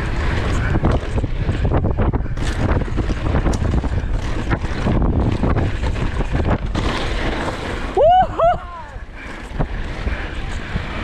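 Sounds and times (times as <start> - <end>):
bike knocking and rattling: 0.0 - 11.0
wind buffeting microphone: 0.0 - 11.0.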